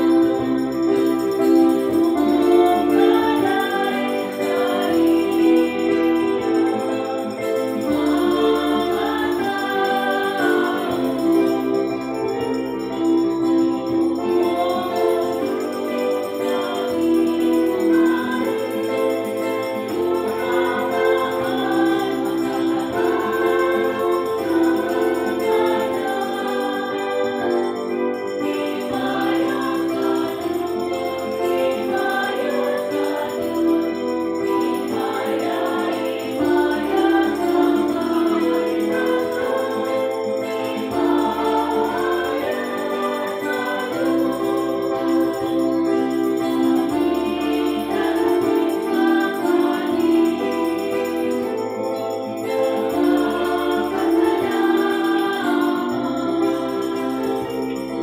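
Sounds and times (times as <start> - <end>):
choir singing a hymn: 0.0 - 58.0
sustained keyboard accompaniment: 0.0 - 58.0.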